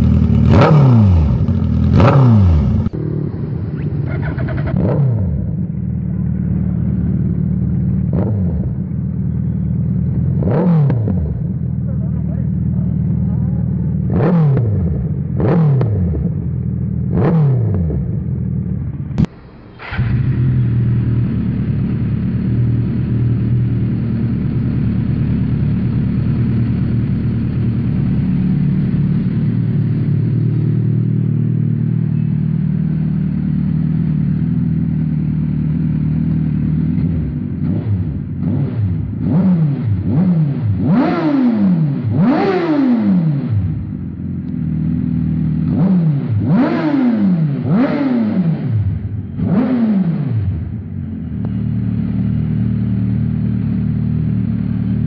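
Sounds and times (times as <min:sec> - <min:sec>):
motorcycle engine idling: 0:00.0 - 0:40.1, 0:43.5 - 0:46.8, 0:50.5 - 0:55.0
motorcycle engine revving: 0:00.0 - 0:55.0.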